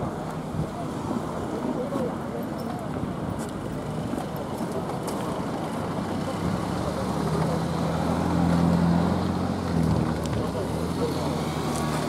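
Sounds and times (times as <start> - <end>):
cars going by: 0.0 - 12.0
vehicle engine hum: 0.0 - 12.0.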